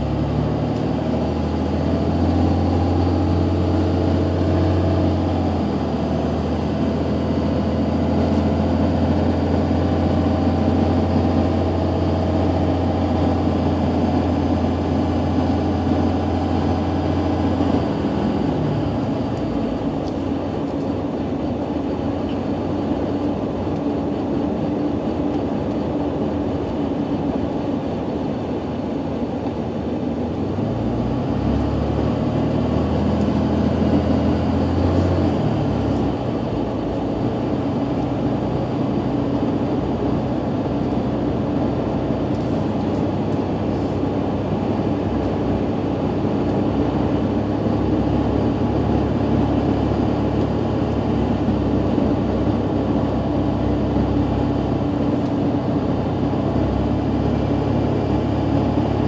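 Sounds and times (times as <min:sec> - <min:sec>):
car engine hum: 0:00.0 - 0:59.0
road noise: 0:00.0 - 0:59.0.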